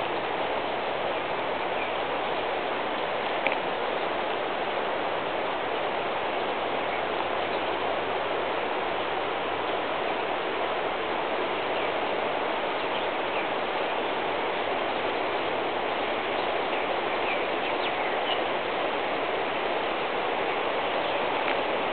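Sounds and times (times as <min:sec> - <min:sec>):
floodwater rushing: 0:00.0 - 0:21.9.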